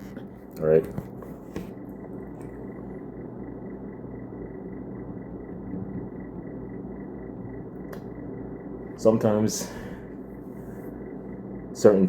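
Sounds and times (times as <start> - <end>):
low background hum and rumble: 0.0 - 12.0.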